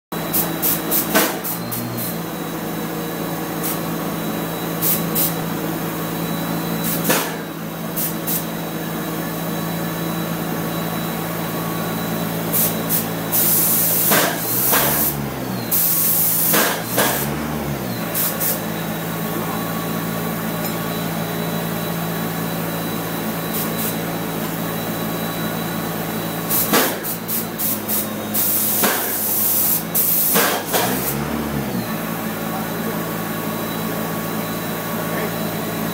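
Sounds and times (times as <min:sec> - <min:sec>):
steady machine hum: 0:00.1 - 0:35.9.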